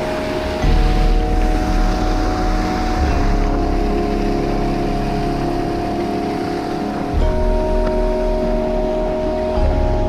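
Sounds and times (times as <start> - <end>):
stream water rushing: 0.0 - 10.0
sustained chord music: 0.0 - 10.0.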